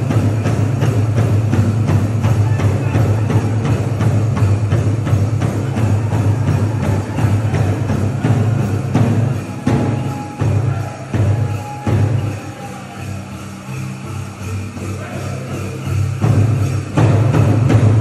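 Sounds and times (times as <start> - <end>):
large drum steady beat: 0.0 - 12.9, 16.0 - 18.0.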